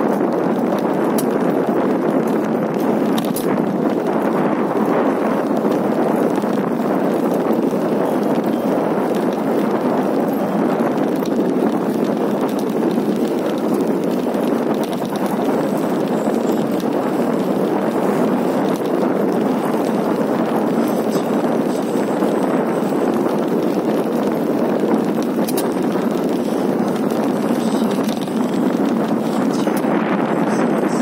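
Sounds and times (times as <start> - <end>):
bike rattling and rolling: 0.0 - 31.0.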